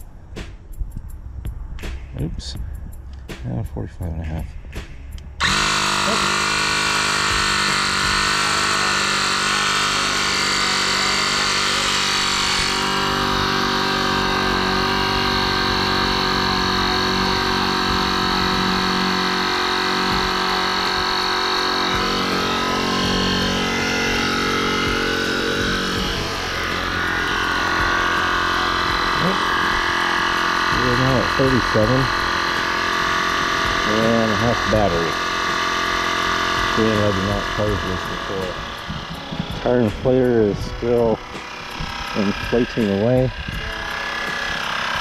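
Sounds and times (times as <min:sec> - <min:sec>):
electric air compressor running: 0:05.3 - 0:45.0.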